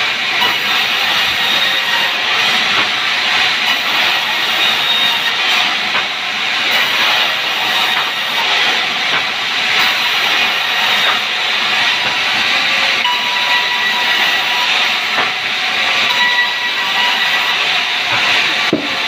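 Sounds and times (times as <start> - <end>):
band saw rasping through wood: 0.0 - 19.0.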